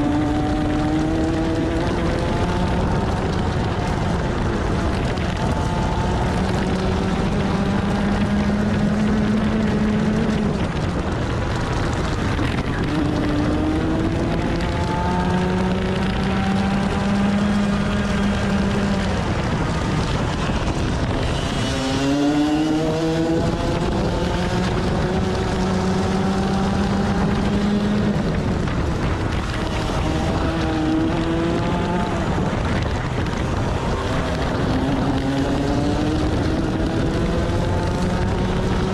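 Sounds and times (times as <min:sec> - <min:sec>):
kart engine at racing speed: 0:00.0 - 0:38.9.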